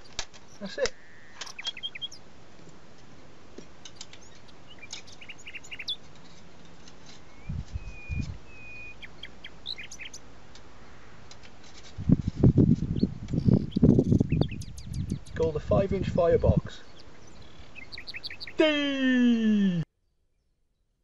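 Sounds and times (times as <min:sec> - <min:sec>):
small birds chirping: 0:00.0 - 0:02.8, 0:03.6 - 0:20.2.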